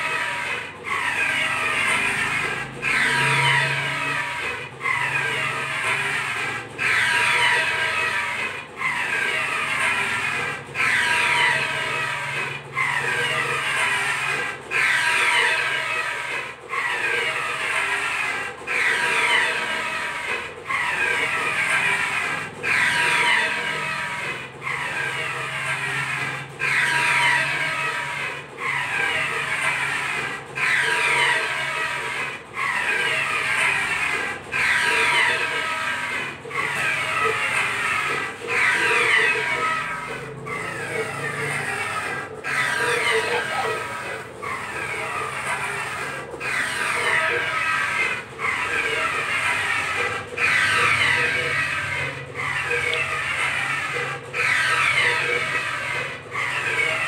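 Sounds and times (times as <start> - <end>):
printer carriage whirring: 0.0 - 57.0.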